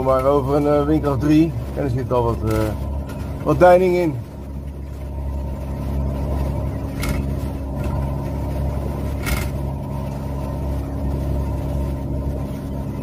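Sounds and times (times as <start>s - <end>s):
boat engines running: 0.0s - 13.0s
hull splashing on swell: 0.0s - 13.0s.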